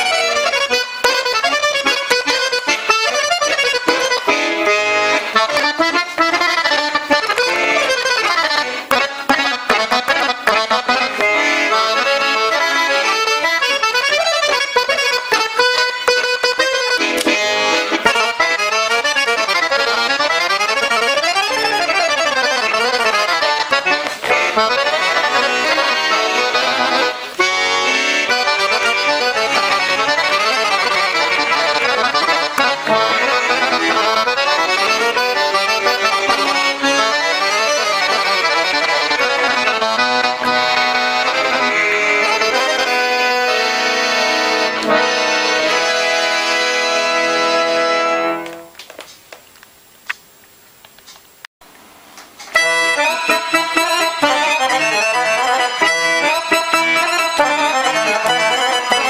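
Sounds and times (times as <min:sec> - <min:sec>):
piano accordion melody: 0:00.0 - 0:48.8, 0:52.4 - 0:59.0.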